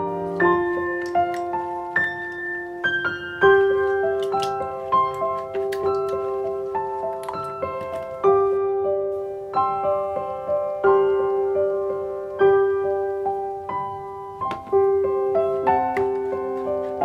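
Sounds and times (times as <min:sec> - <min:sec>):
slow piano tune: 0:00.0 - 0:17.0.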